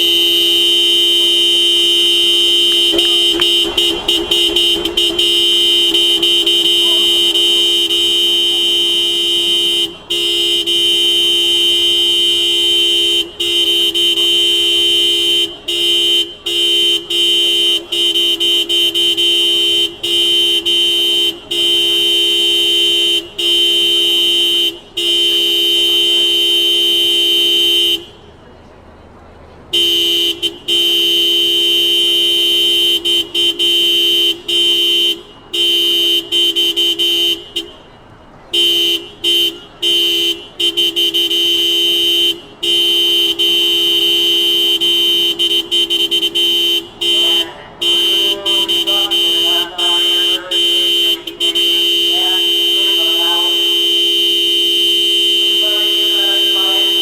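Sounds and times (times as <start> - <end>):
car horn blaring: 0.0 - 28.6, 29.7 - 57.0.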